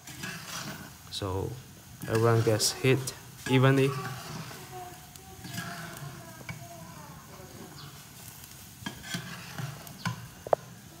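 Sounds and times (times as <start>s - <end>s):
metal ladle scraping a pan: 0.0s - 1.0s, 2.0s - 11.0s
dumplings boiling in water: 0.0s - 11.0s.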